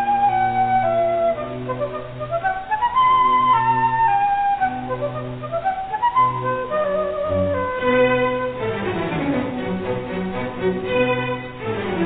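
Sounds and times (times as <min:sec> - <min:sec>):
flute-like instrumental music: 0:00.0 - 0:12.0.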